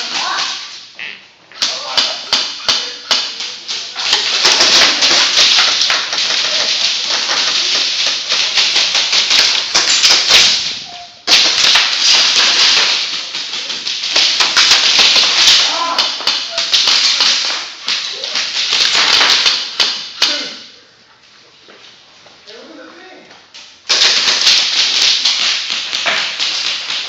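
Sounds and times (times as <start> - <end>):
airsoft guns firing: 1.7 - 20.5, 23.9 - 27.0.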